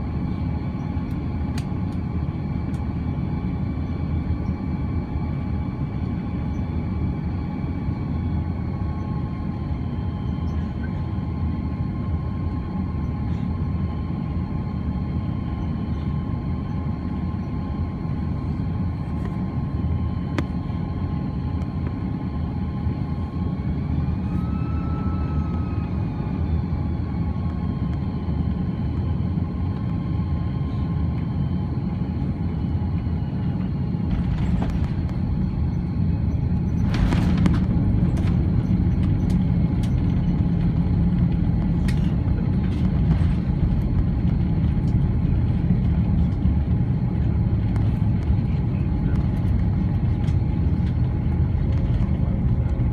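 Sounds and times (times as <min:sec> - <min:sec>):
airplane cabin engine rumble: 0:00.0 - 0:52.9.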